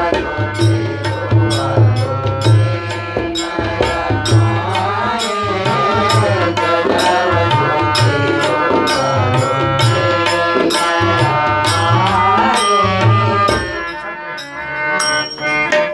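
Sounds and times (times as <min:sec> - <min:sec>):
men singing: 0:00.0 - 0:14.8
hand drum and percussion: 0:00.0 - 0:15.9
harmonium playing held chords: 0:00.0 - 0:15.9.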